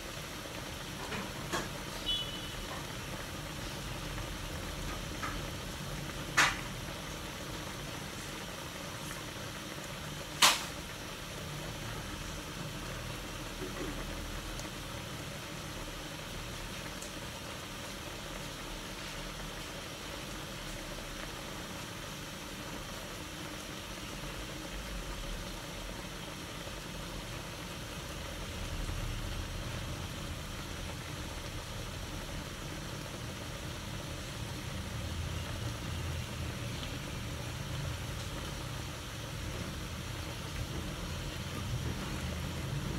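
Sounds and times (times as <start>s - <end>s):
meat simmering bubbling hiss: 0.0s - 42.9s.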